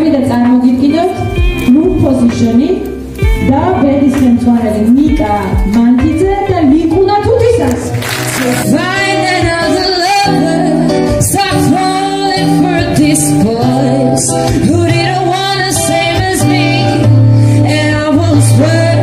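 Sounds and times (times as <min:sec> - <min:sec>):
woman singing into a microphone: 0:00.0 - 0:19.0
instrumental accompaniment: 0:00.8 - 0:19.0.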